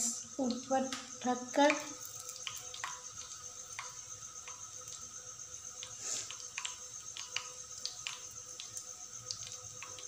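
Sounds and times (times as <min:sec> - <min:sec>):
batter crackling in hot oil: 0:00.0 - 0:10.0.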